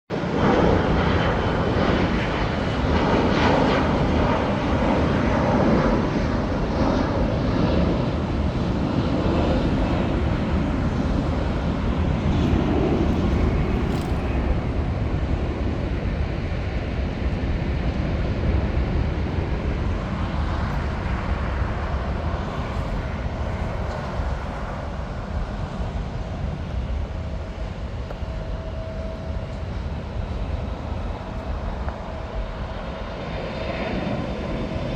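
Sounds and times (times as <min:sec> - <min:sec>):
jet engines roaring: 0:00.1 - 0:34.9.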